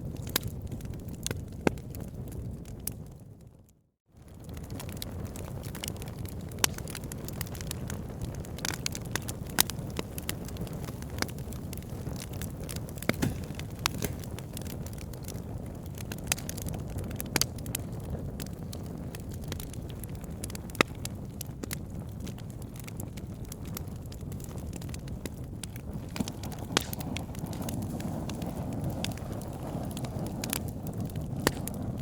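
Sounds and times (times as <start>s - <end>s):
wood fire crackling: 0.0s - 3.2s, 4.2s - 32.0s.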